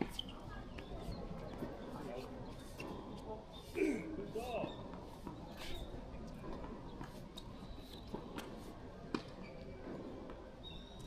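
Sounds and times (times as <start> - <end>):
shoe squeaks: 0.0 - 6.1, 6.9 - 10.0, 10.6 - 11.0.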